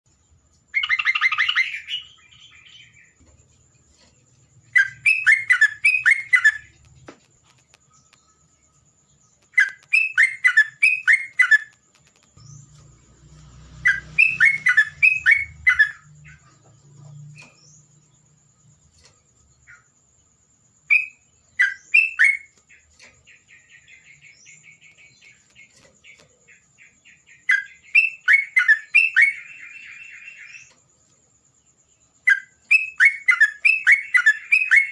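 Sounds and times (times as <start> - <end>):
faint rapid bird trill: 0.1 - 34.9.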